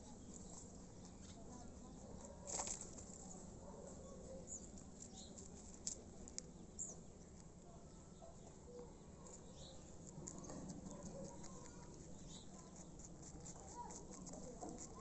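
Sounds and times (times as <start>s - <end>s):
rabbits nibbling: 0.0s - 15.0s.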